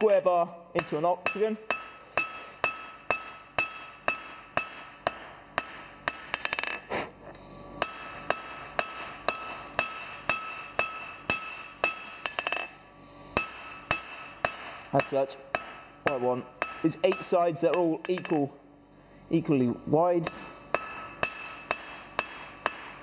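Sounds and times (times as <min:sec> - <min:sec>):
hammer striking hot steel on anvil: 0:00.8 - 0:06.9, 0:07.8 - 0:18.5, 0:20.2 - 0:23.0.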